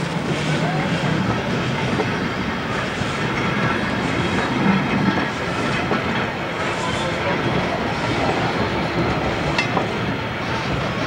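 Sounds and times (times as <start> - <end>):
train coaches rumbling past: 0.0 - 11.0.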